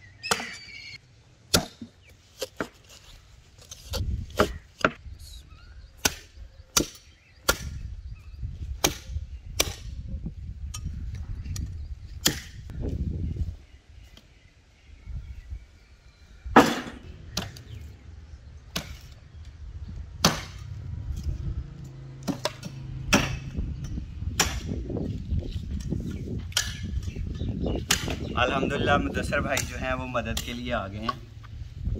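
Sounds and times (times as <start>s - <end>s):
low wind rumble: 3.8s - 31.9s.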